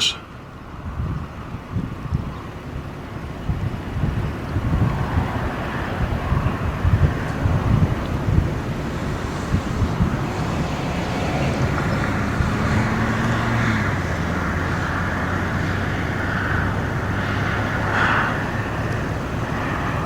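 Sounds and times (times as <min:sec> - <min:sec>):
vehicle engines humming: 0:00.0 - 0:20.0
wind on microphone: 0:00.0 - 0:20.0.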